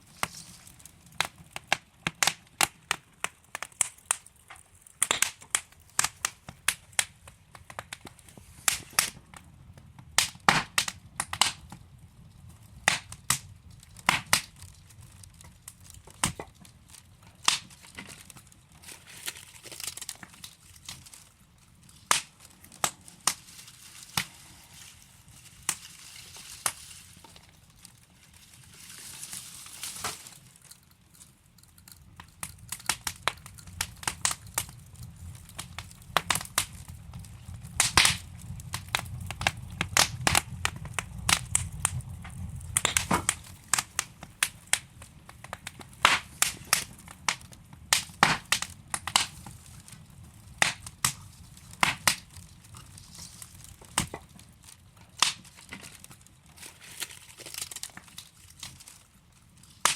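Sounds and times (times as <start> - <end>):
logs crackling in fireplace: 0.0 - 59.9
low rumble of flame: 0.0 - 59.9.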